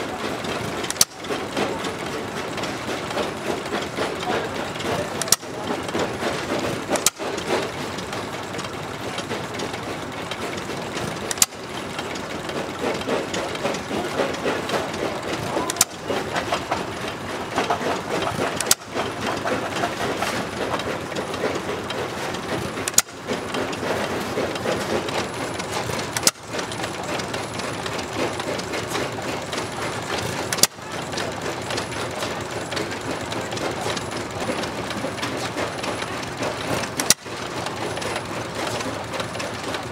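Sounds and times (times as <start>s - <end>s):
old stationary engines running: 0.0s - 39.9s.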